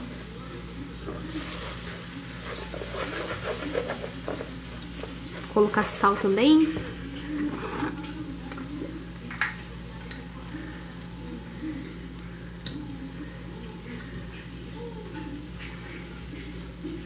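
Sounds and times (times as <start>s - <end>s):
rice frying in a pot: 0.0s - 17.0s.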